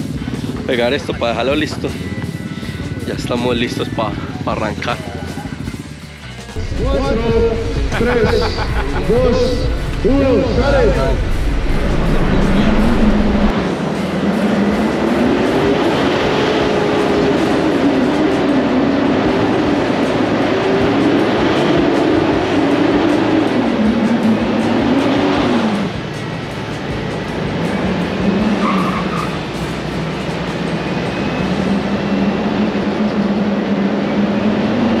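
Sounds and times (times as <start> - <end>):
suv engine accelerating hard: 6.6 - 35.0.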